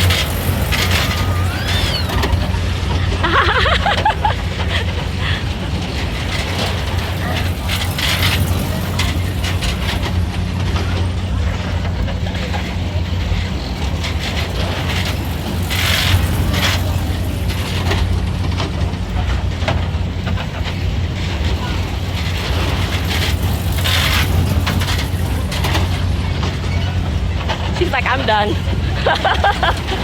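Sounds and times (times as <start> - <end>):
ride machinery humming: 0.0 - 30.0.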